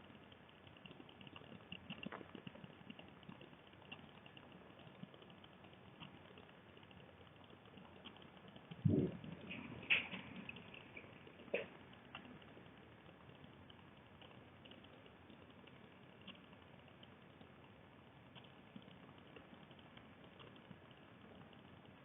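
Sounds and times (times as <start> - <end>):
faint crackling room noise: 0.0 - 22.0
small ticks: 0.0 - 22.0.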